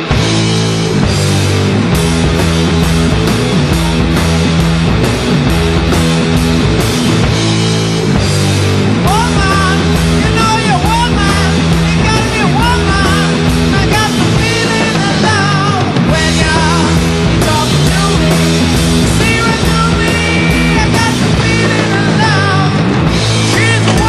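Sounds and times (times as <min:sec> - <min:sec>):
loud rock music with vocals: 0:00.0 - 0:24.0.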